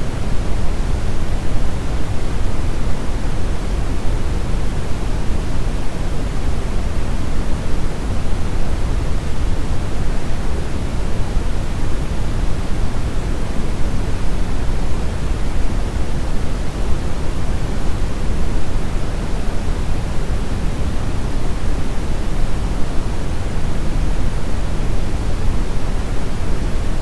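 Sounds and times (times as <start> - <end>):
brown noise hiss: 0.0 - 27.0.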